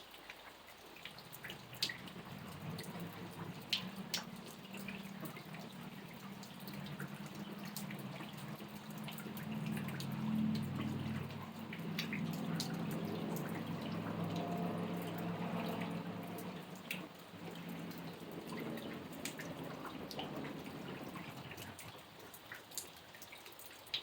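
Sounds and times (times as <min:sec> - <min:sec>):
rain dripping: 0:00.0 - 0:24.0
low steady hum: 0:01.0 - 0:22.0.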